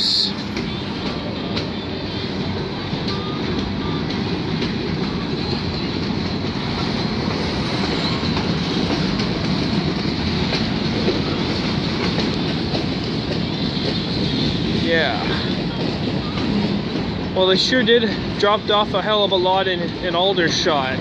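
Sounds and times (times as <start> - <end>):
train wheels rumbling on rails: 0.0 - 21.0
wheels clicking over rail joints: 0.1 - 21.0.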